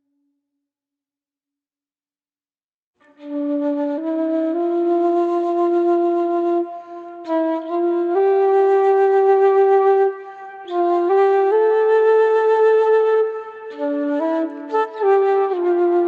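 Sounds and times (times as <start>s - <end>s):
flute playing slow melody: 3.0s - 16.0s.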